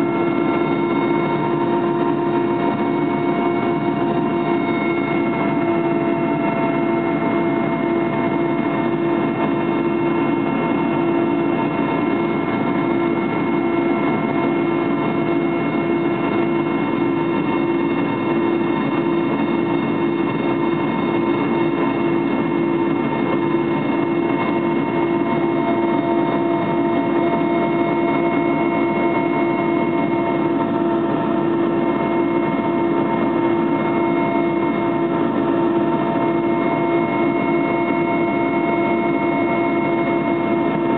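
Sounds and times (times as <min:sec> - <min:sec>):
aircraft engine drone in cabin: 0:00.0 - 0:40.9.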